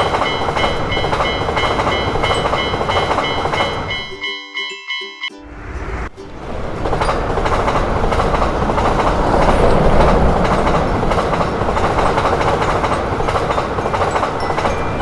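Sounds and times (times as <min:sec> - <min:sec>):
train wheels rumbling on track: 0:00.0 - 0:04.2, 0:05.5 - 0:15.0.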